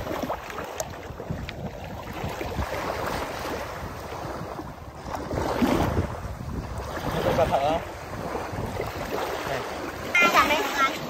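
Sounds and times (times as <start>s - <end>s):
small waves washing: 0.0s - 11.0s
wind buffeting microphone: 0.0s - 11.0s.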